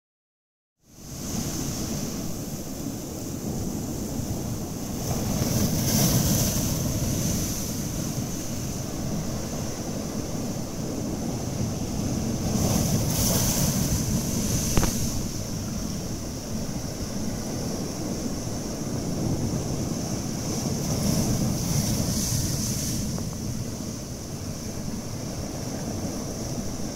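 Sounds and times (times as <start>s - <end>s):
surf breaking on rocky shore: 1.0s - 26.9s.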